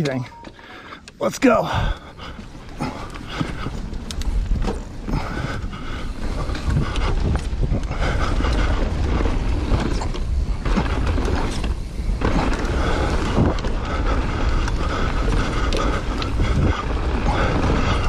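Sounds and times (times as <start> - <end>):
wind buffeting microphone: 1.7 - 18.0
bike tyres knocking and rattling: 1.9 - 18.0.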